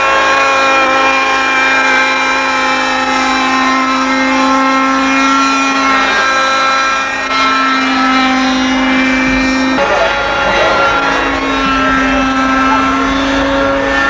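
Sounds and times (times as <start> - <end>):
model helicopter engine: 0.0 - 14.0.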